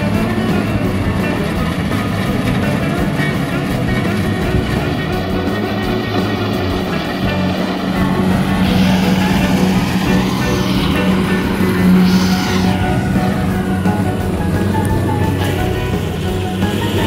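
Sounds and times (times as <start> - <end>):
background music: 0.0 - 17.0
combine harvester engine running: 0.0 - 17.0.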